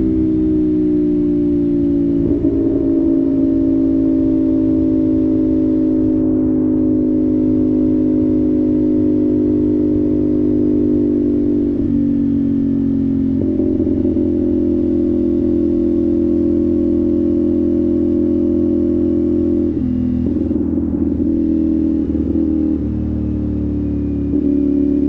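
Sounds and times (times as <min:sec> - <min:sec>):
motorcycle engine cruising: 0:00.0 - 0:25.0.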